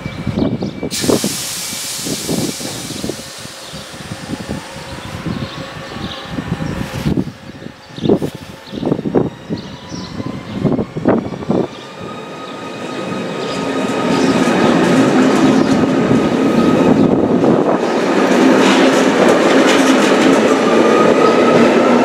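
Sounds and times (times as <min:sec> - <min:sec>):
electric train rumble and whine: 0:00.0 - 0:22.0.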